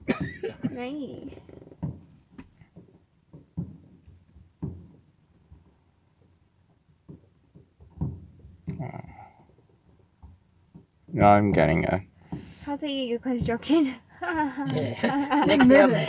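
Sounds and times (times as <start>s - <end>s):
distant fireworks booming: 0.0s - 14.1s.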